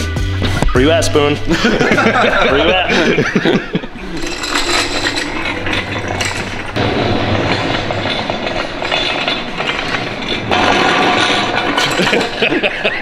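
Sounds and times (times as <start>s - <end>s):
pallet jack wheels rattling: 1.6s - 13.0s.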